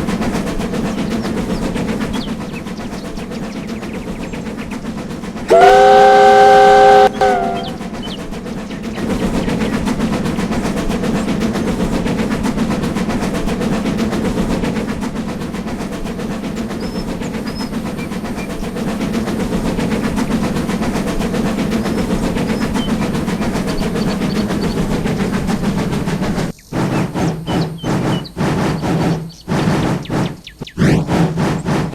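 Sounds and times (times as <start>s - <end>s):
locomotive hauling train: 0.0s - 31.9s.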